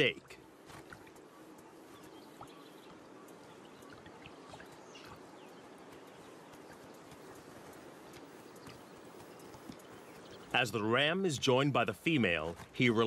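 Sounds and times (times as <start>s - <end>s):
steady low hiss: 0.0s - 13.0s
small ticks: 0.4s - 11.6s.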